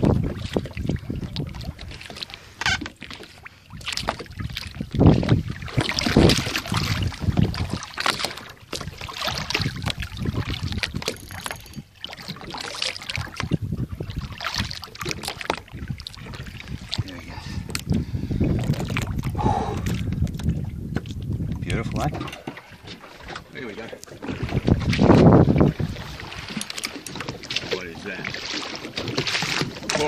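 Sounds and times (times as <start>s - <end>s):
wind on microphone: 0.0s - 2.2s, 3.8s - 23.5s, 24.1s - 30.0s
water sloshing against a boat: 0.0s - 30.0s.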